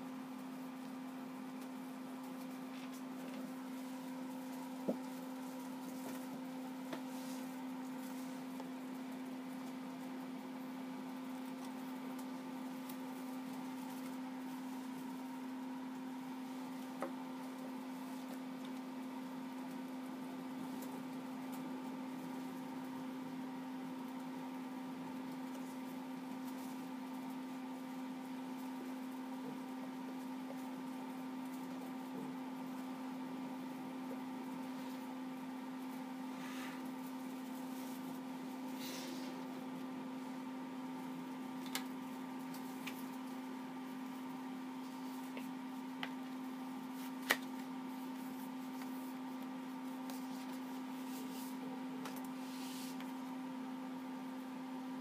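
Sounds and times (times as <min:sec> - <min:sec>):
steady room hum: 0:00.0 - 0:55.0.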